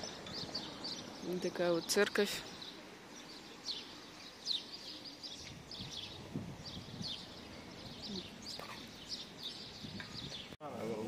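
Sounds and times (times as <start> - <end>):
faint outdoor background noise: 0.0 - 11.0
songbirds chirping: 0.0 - 11.0.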